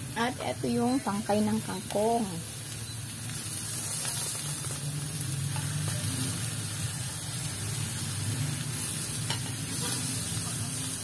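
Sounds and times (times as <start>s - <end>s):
wok sizzling: 0.0s - 11.0s.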